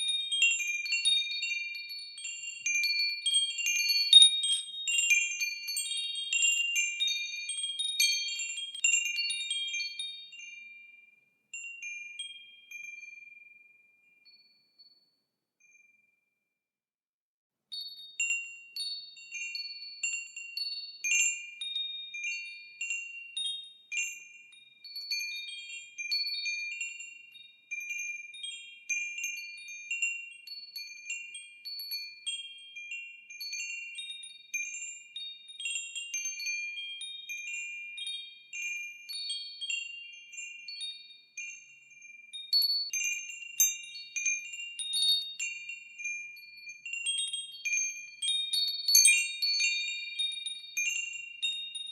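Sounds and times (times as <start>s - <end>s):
wind chimes ringing: 0.0s - 14.9s, 17.7s - 51.9s.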